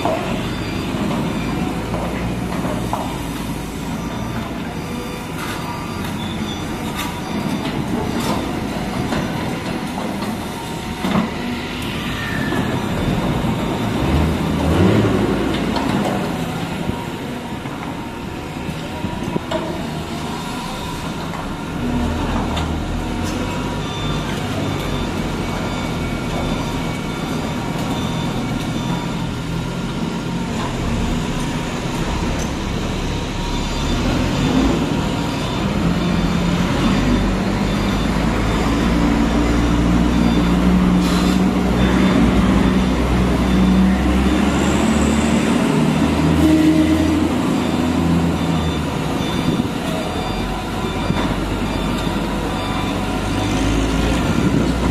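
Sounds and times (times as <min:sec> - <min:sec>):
excavator diesel engine under load: 0:00.0 - 0:54.9.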